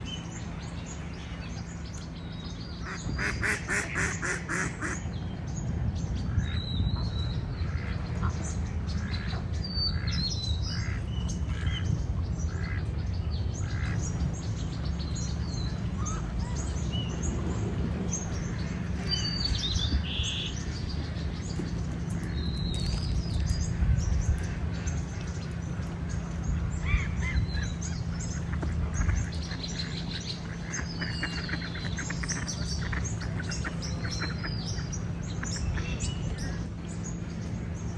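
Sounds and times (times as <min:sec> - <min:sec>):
birds chirping and calling: 0:00.0 - 0:37.9
steady low rumble: 0:00.0 - 0:37.9.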